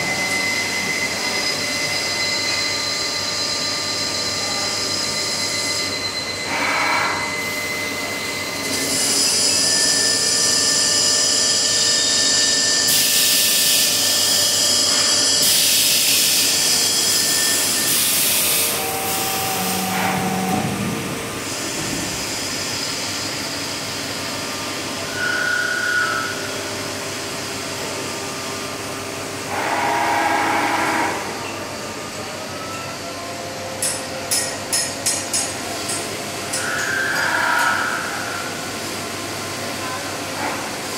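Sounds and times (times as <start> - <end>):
high steady whines: 0.0 - 40.9.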